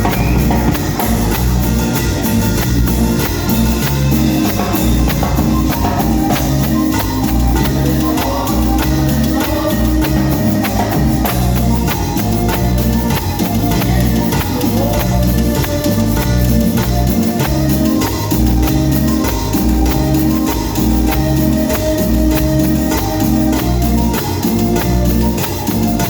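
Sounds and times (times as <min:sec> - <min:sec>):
drums and percussion beat: 0:00.0 - 0:26.0
instrumental band music: 0:00.0 - 0:26.0
pulsing bass line: 0:00.0 - 0:26.0.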